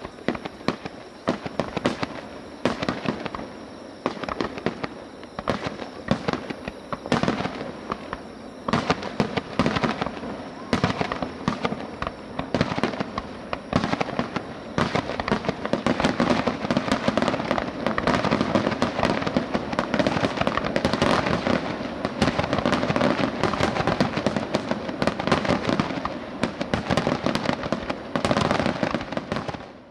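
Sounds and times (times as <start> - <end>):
fireworks bangs and pops: 0.0 - 29.9
fireworks crackle: 0.0 - 29.9.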